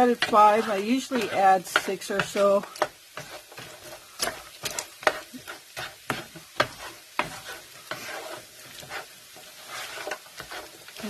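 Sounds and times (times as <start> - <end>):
food sizzling: 0.0 - 11.0
utensil scraping frying pan: 0.0 - 11.0.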